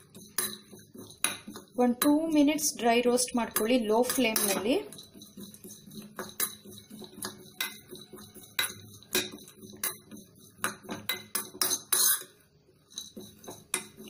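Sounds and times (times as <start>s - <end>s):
spoon clinking and scraping pan: 0.0s - 14.0s.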